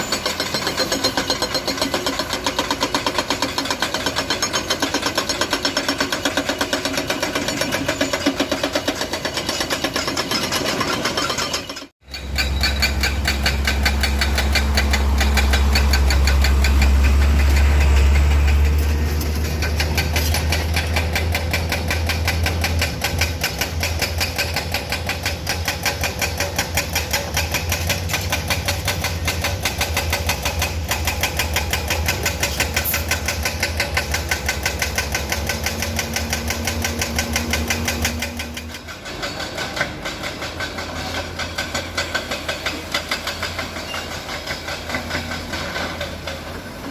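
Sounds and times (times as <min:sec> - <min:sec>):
diesel engine clattering: 0:00.0 - 0:46.9.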